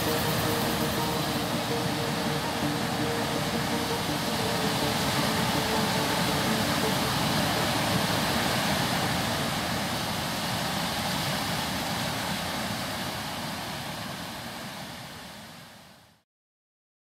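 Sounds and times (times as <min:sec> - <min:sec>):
waterfall and rapids rushing: 0:00.0 - 0:16.2.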